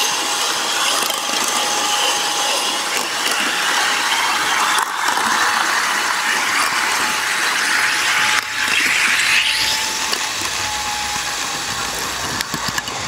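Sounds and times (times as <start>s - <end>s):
model train wheels whirring: 0.0s - 13.0s
faint thin whine: 0.8s - 13.0s.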